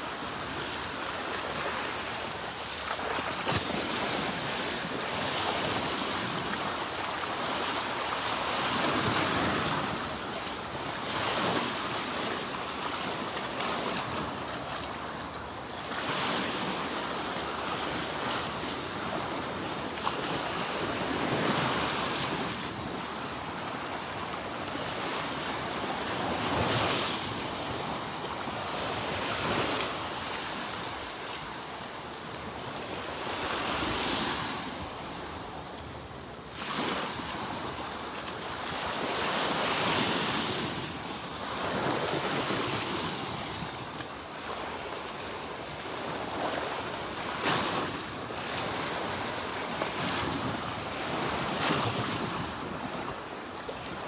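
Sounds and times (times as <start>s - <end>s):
waves washing onto sandy beach: 0.0s - 54.0s.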